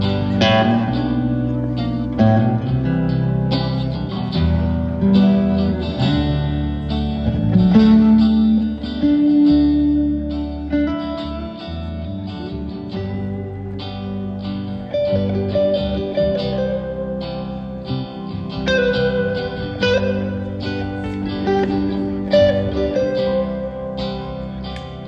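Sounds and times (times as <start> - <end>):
plucked guitar notes: 0.0 - 25.0.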